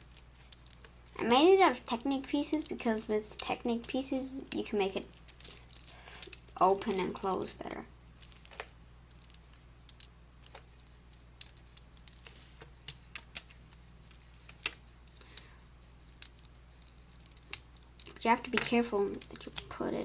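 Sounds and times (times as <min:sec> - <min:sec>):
plastic pieces clicking: 0:00.4 - 0:07.3, 0:08.2 - 0:15.5, 0:16.1 - 0:19.8.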